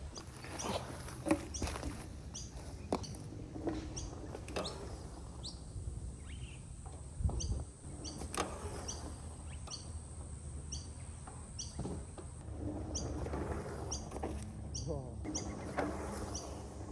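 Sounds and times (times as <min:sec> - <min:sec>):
bike tyres rumbling on dirt: 0:00.0 - 0:16.9.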